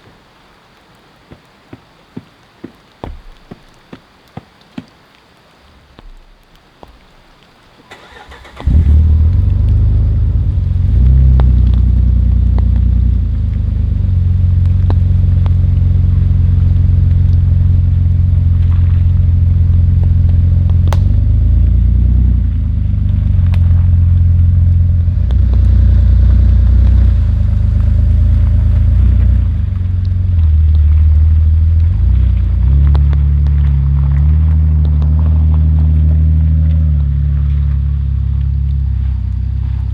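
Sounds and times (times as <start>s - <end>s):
vehicle engine rumbling: 7.9s - 39.9s.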